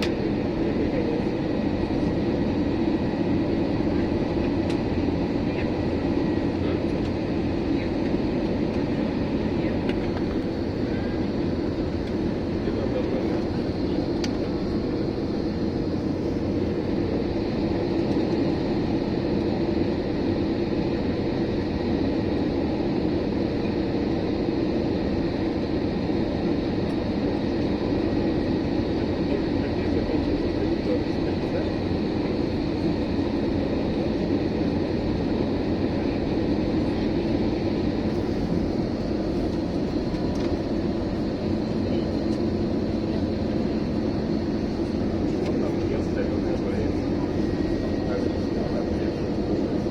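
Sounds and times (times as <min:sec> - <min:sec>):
aircraft cabin engine hum: 0:00.0 - 0:49.9.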